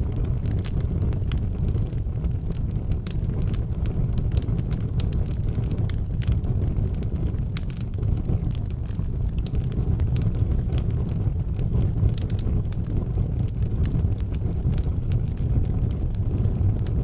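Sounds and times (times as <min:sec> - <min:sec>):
fire crackles and pops: 0:00.0 - 0:17.0
low rumble of flames: 0:00.0 - 0:17.0.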